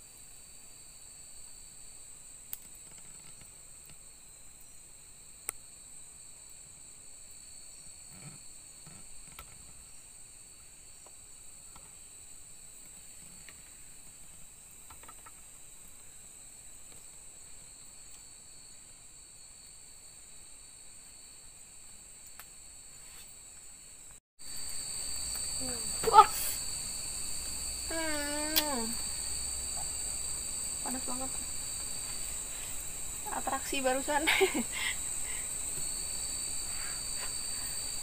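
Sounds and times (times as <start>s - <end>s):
night insects trilling: 0.0s - 38.0s.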